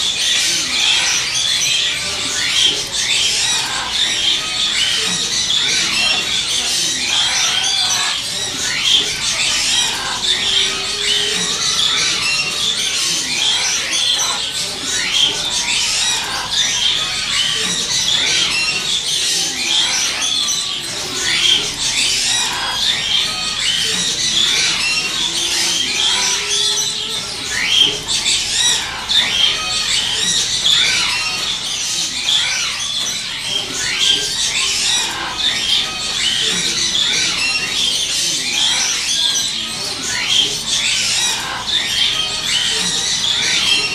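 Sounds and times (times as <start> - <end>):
parrots chattering and squawking: 0.0 - 43.9.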